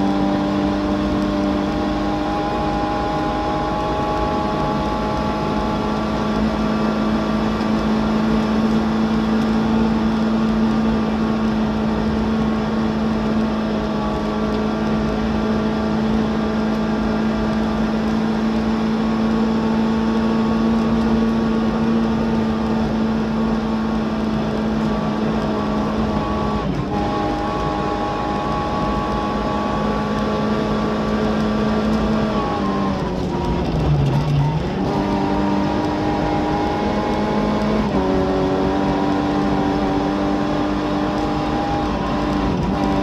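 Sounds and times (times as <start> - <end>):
rally car engine revving: 0.0 - 43.0.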